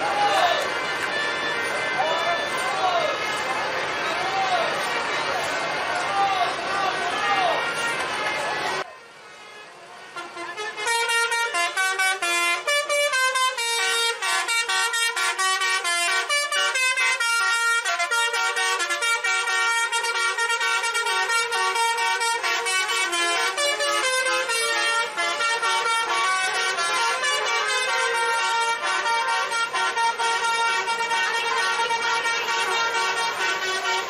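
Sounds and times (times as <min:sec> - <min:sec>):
multi-tone bus air horn melody: 0:00.0 - 0:05.8, 0:06.9 - 0:08.7, 0:09.4 - 0:34.0.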